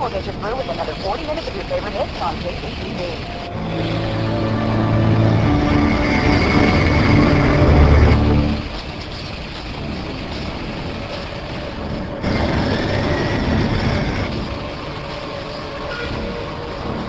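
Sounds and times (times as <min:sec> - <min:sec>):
vehicle rumble and hiss: 0:00.0 - 0:17.0.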